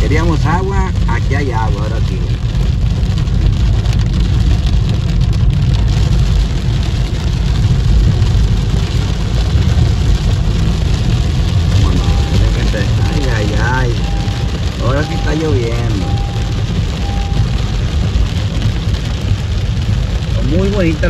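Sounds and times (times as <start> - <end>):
engine and tyres rumble: 0.0 - 21.0
heavy rain on car windshield: 0.0 - 21.0.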